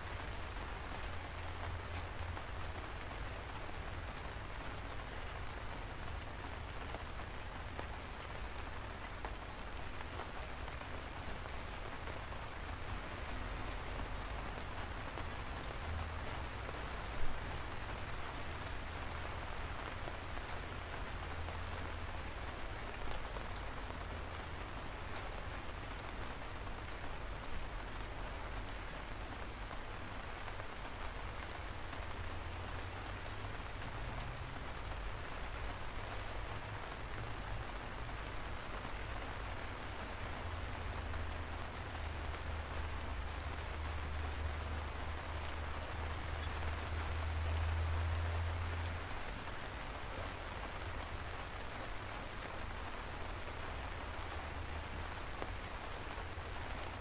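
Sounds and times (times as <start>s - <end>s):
raindrops ticking: 0.0s - 57.0s
steady rain: 0.0s - 57.0s.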